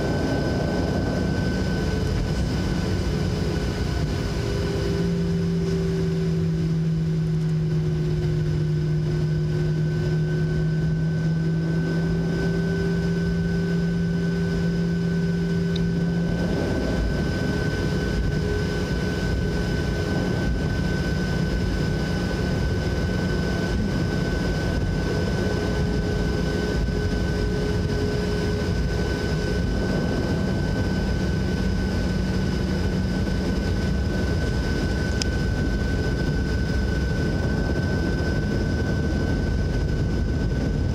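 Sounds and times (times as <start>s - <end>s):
jet engines droning: 0.0s - 40.9s
rush of cabin noise: 0.0s - 40.9s
steady high whine: 0.0s - 40.9s.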